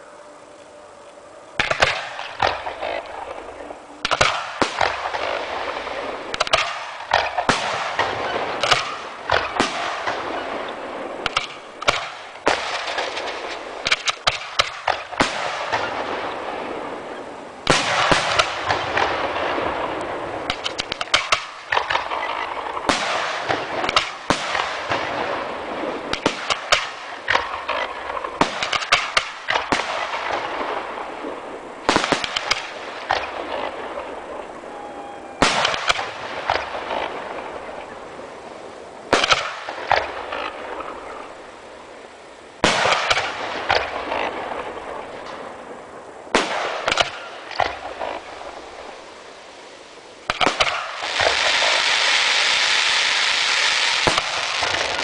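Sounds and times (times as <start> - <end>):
fireworks bursting with bangs: 0.0 - 55.0
fireworks crackle and hiss: 0.0 - 55.0.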